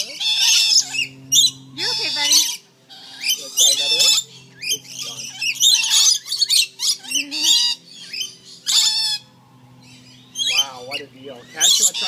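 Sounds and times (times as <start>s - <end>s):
lorikeets screeching: 0.0s - 12.0s.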